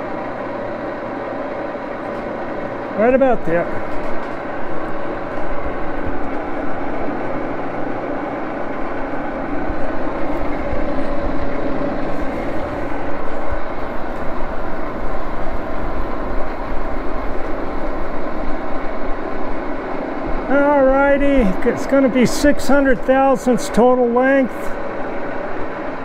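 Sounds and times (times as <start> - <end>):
lathe running with whining hum: 0.0 - 26.0.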